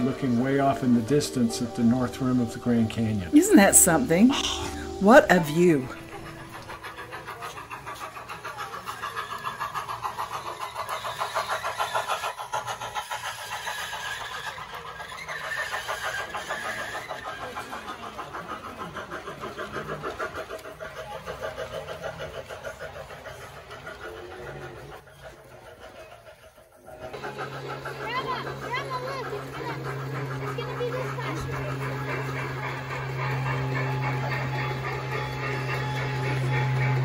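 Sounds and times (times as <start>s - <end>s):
model train rhythmic clatter: 0.0s - 37.0s.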